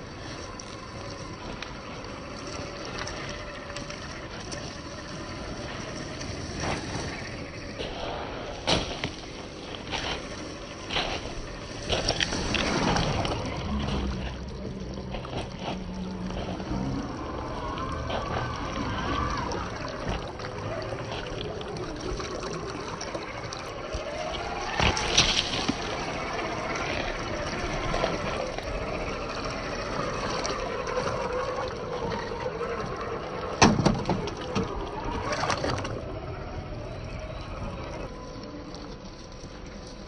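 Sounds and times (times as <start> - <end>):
water: 0.0 - 40.0.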